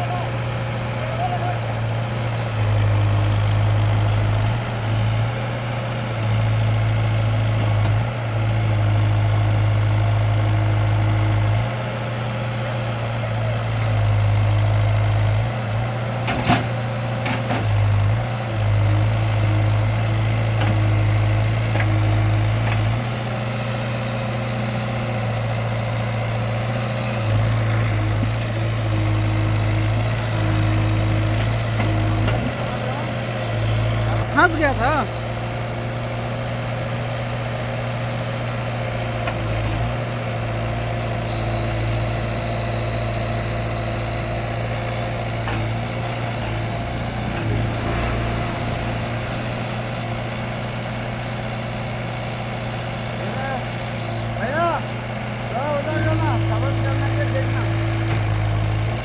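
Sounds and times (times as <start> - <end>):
diesel engine working hard: 0.0 - 59.0.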